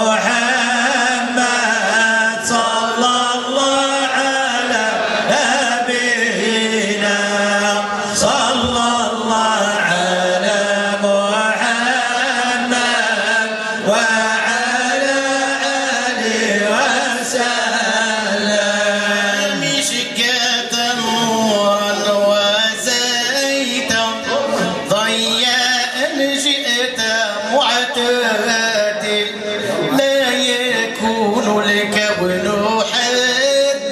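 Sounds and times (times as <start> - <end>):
man chanting ornamented melody: 0.0 - 33.9.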